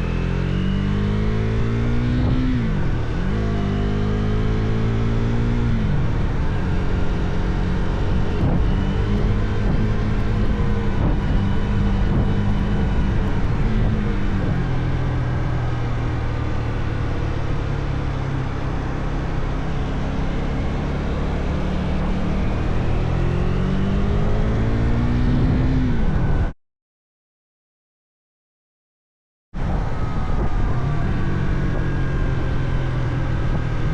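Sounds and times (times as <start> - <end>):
motorcycle engine revving: 0.0 - 26.5, 29.6 - 33.9
road and wind noise: 0.0 - 26.6, 29.6 - 33.9.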